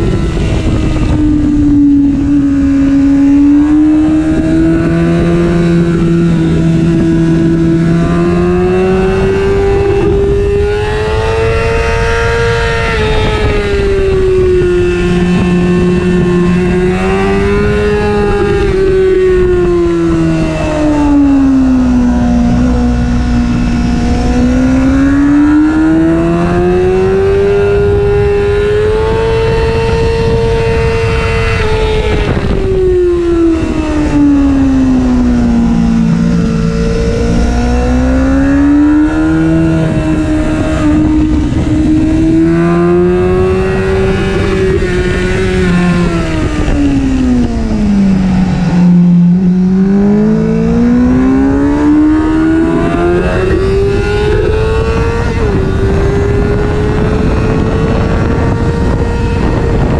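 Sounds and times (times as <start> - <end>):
motorcycle engine revving: 0.0 - 59.9
wind rushing: 0.0 - 59.9.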